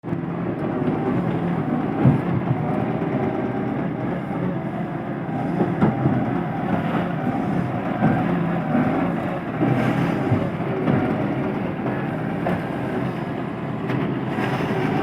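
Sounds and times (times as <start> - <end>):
diesel earthmoving machinery running: 0.0 - 15.0.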